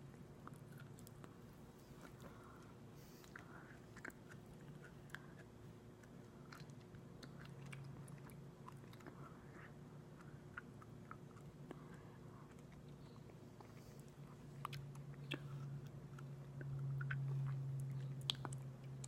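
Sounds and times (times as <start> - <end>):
low steady hum: 0.0 - 19.0
wet chewing mouth sounds: 0.4 - 19.0.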